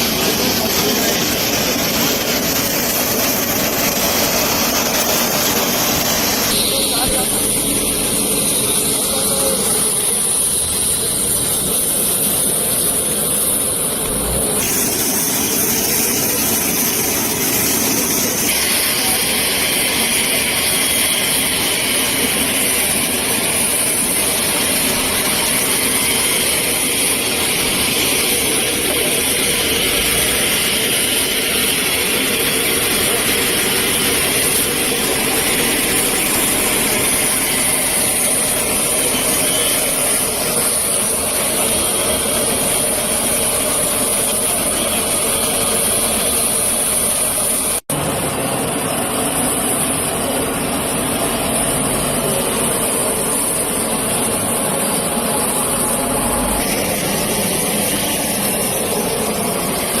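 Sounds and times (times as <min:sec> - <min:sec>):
loud engine with high hiss: 0:00.0 - 1:00.0.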